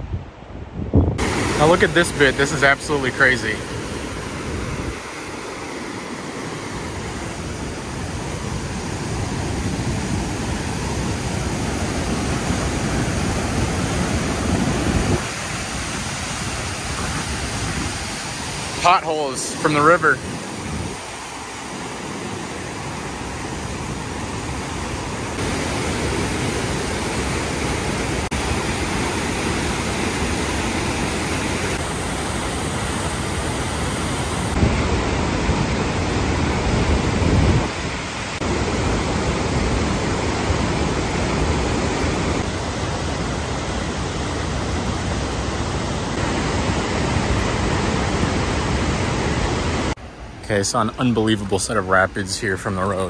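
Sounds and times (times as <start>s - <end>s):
whitewater rapids rushing: 1.2s - 50.0s.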